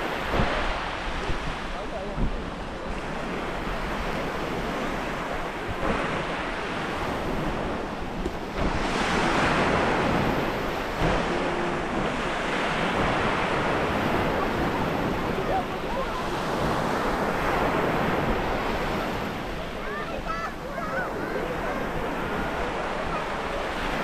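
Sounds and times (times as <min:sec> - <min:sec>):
waves washing over stony beach: 0:00.0 - 0:24.0.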